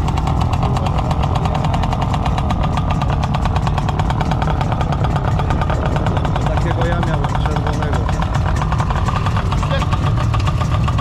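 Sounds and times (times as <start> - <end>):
motorcycle engine running at low revs: 0.0 - 11.0.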